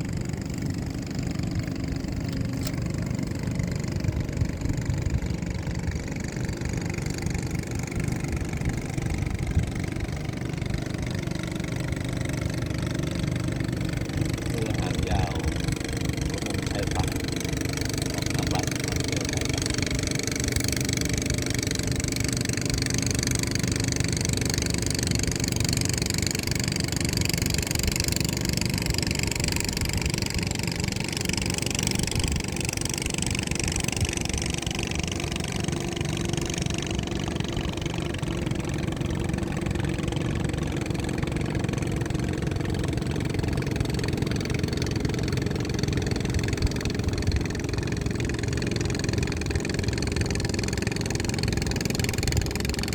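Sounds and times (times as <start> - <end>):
boat engine idling: 0.0 - 52.9.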